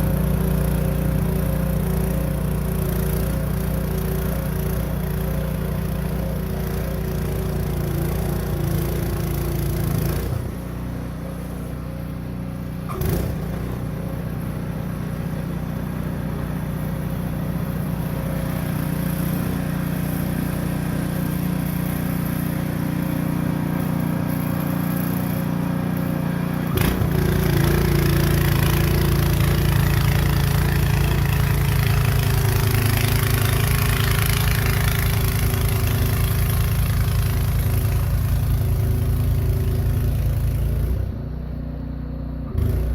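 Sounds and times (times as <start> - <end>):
snow blower engine running: 0.0 - 42.9.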